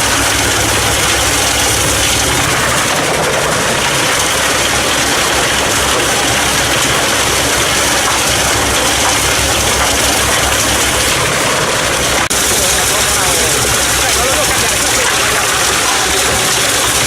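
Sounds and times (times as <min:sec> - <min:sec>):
tractor engine running: 0:00.0 - 0:17.0
wood chipper drum running: 0:00.0 - 0:17.0.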